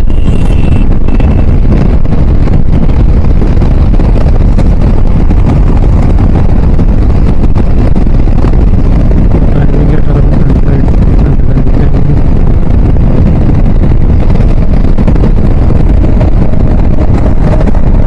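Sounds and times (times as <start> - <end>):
motorcycle running: 0.0 - 18.0
road noise: 0.0 - 18.0
wind buffeting microphone: 0.0 - 18.0.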